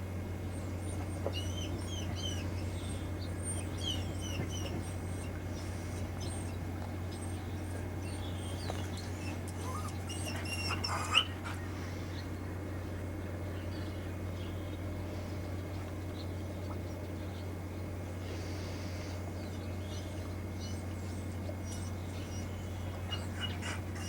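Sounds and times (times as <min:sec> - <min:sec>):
steady low hum: 0:00.0 - 0:24.0
small birds chirping: 0:00.4 - 0:24.0.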